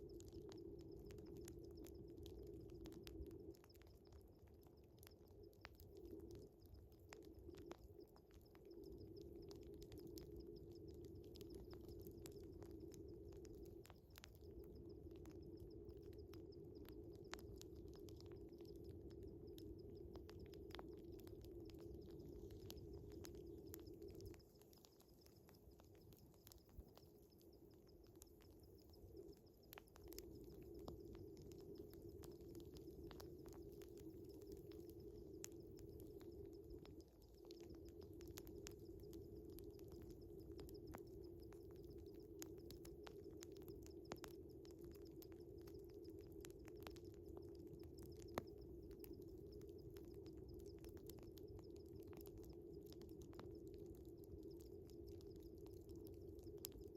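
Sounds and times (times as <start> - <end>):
crickets chirring: 0.0 - 56.9
faint wood fire crackling: 0.0 - 56.9.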